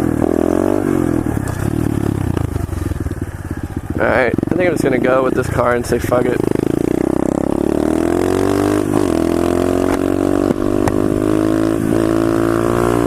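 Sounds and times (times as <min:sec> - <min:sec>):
motorbike engine pulling away: 0:00.0 - 0:13.0.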